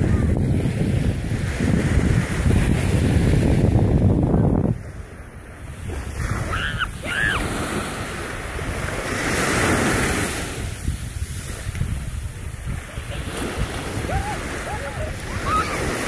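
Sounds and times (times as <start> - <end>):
small waves breaking on beach: 0.0 - 16.0
wind rumbling on microphone: 0.0 - 16.0.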